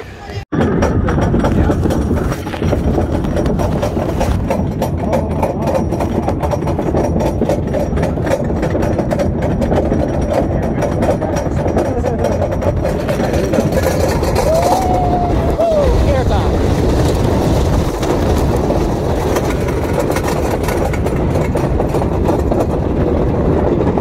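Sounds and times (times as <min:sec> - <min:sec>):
rapid clacking of roller coaster: 0:00.5 - 0:24.0
lift chain rumble: 0:00.6 - 0:24.0.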